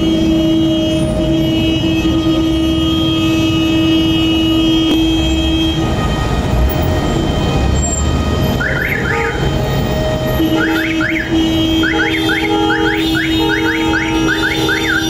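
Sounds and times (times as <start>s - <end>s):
long vehicle horn: 0.0s - 6.2s, 8.8s - 15.0s
traffic engines rumbling: 0.0s - 15.0s.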